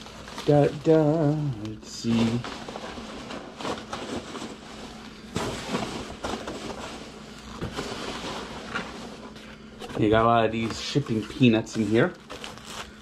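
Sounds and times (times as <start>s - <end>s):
packing peanuts and plastic rustling: 0.0s - 13.0s.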